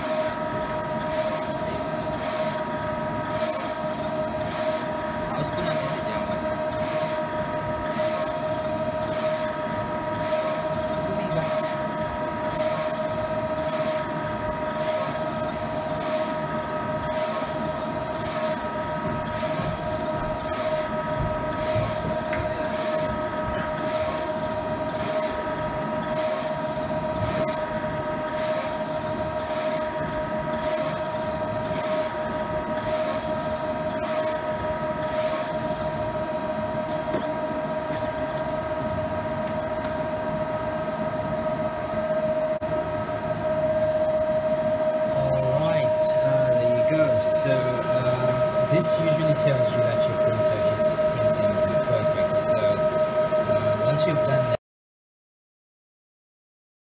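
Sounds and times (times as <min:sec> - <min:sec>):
printer machine hum: 0:00.0 - 0:54.6.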